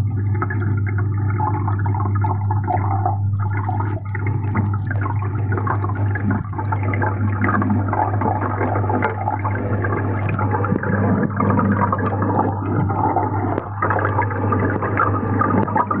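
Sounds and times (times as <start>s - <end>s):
muffled water bubbling: 0.0s - 16.0s
steady low hum: 0.0s - 16.0s.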